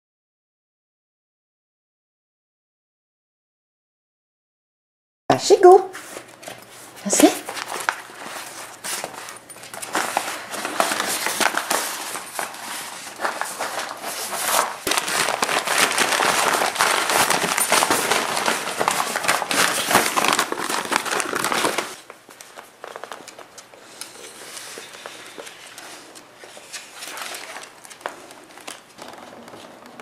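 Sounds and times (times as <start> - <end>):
wrapping paper crinkling: 6.0 - 30.0.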